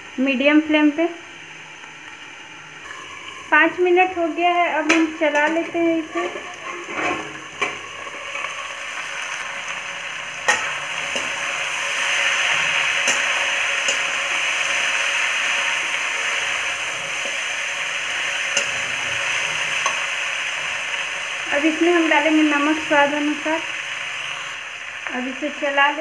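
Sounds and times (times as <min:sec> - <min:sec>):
vegetables sizzling in hot oil: 0:00.0 - 0:26.0.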